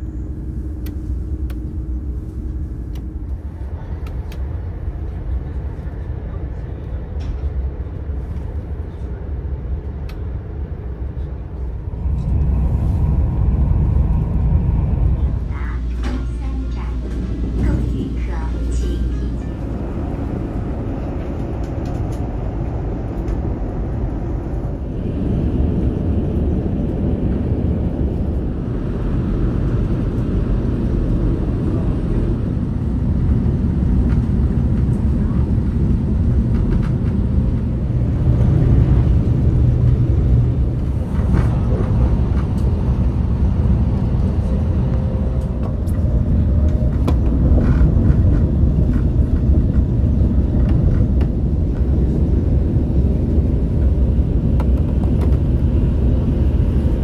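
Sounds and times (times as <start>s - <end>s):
train cabin rumble: 0.0s - 57.0s.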